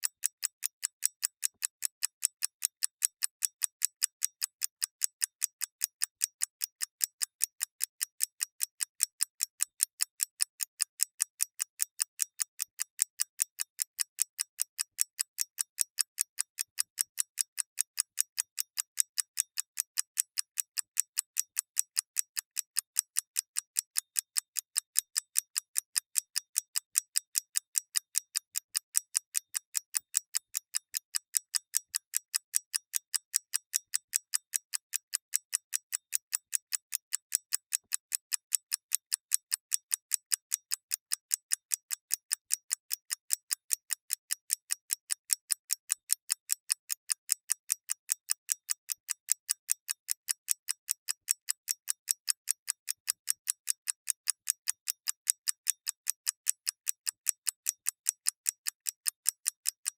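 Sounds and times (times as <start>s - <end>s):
clock ticking: 0.0s - 56.3s.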